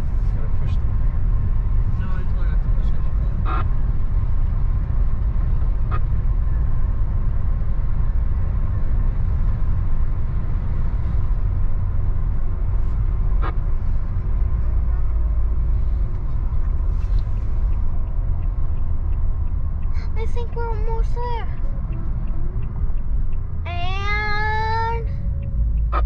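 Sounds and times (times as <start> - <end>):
truck driving rumble from cab: 0.0 - 26.0.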